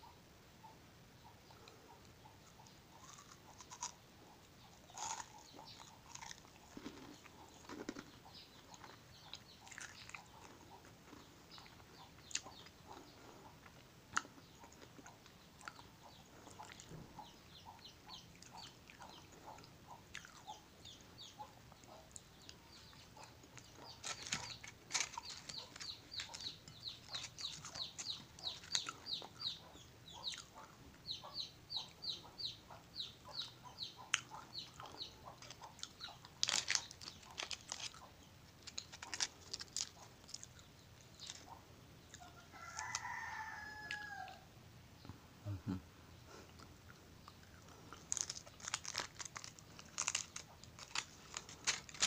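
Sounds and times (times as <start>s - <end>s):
bird peeping: 0.0s - 13.7s, 14.3s - 44.4s
chewing crisp chocolate: 1.5s - 44.4s, 46.3s - 52.0s.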